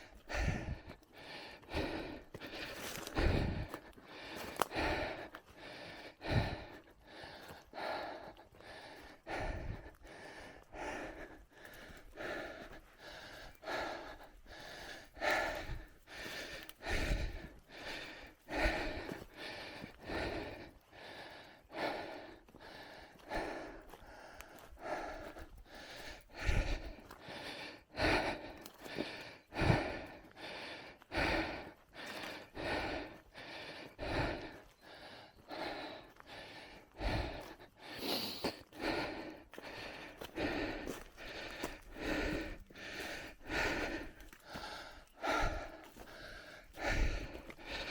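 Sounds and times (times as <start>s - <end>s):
cyclist breathing hard: 0.0s - 47.9s.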